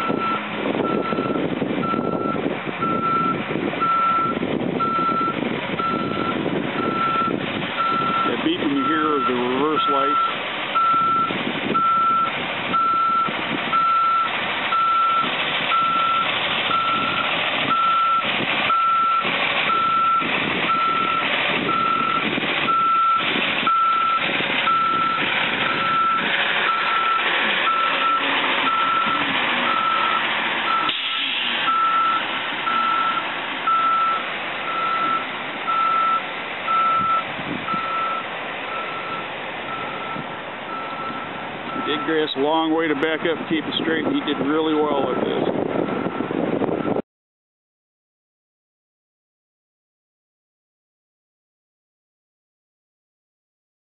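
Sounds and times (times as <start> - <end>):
reversing alarm beeps: 0.0 - 30.9, 31.7 - 42.2, 44.9 - 47.0
bus engine running: 0.0 - 47.0.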